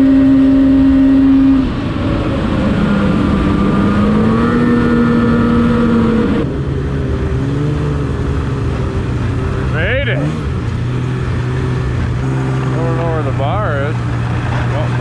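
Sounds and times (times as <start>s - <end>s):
snowmobile engine: 0.0s - 15.0s.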